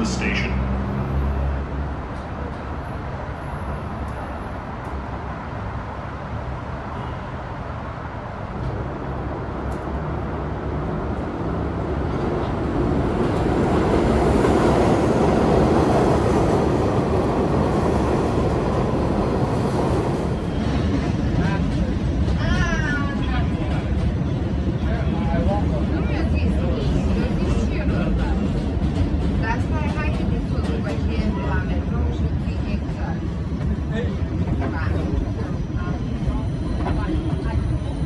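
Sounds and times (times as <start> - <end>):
subway train rumbling: 0.0 - 38.0.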